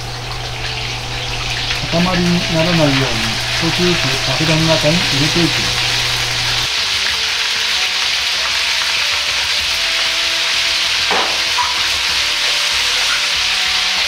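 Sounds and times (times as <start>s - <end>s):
oil sizzling and bubbling: 0.0s - 14.0s.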